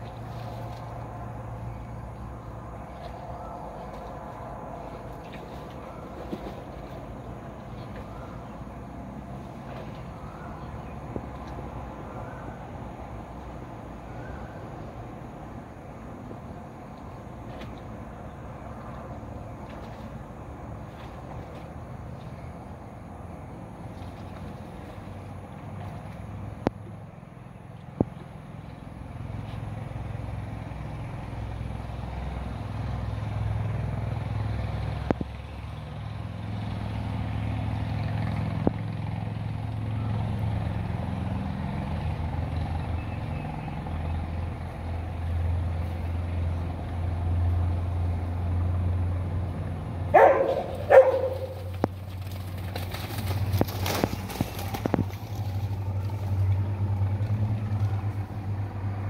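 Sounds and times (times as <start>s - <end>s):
low engine rumble: 0.0s - 59.0s.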